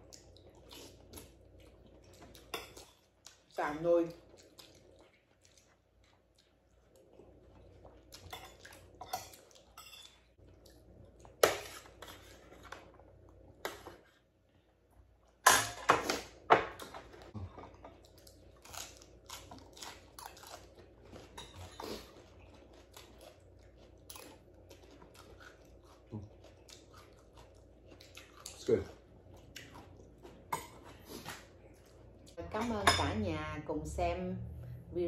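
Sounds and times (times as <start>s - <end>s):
chewing: 0.0s - 12.9s, 17.1s - 32.4s.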